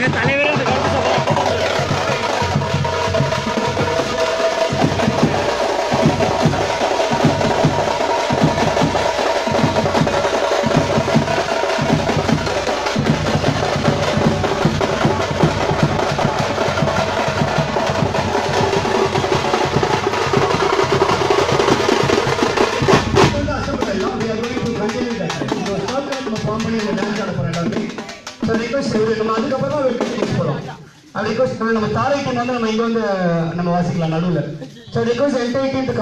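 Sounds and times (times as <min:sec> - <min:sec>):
frame drums and bass drum: 0:00.0 - 0:34.2.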